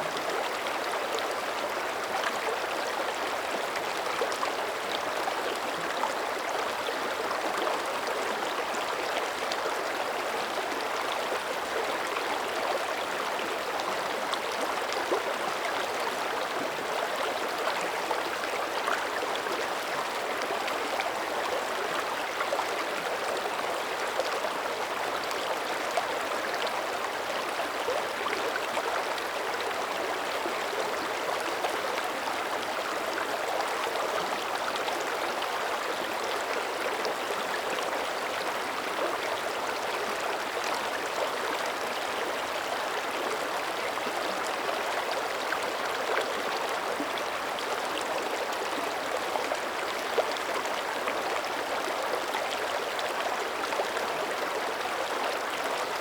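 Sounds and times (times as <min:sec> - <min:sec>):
creek rushing water: 0:00.0 - 0:56.0.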